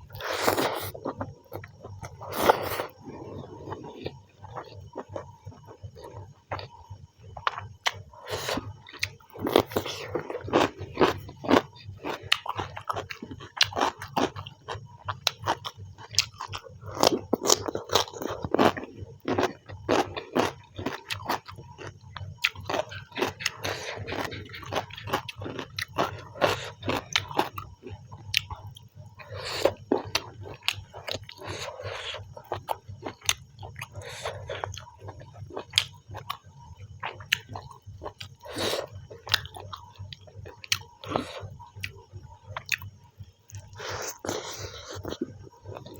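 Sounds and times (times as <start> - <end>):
person chewing: 0.0 - 36.4, 37.0 - 42.0, 42.6 - 42.9, 43.5 - 45.9.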